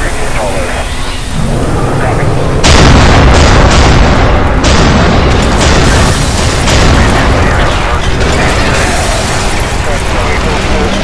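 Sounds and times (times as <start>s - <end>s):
continuous low rumble: 0.0s - 11.0s
tank cannon fire and explosions: 1.4s - 11.0s.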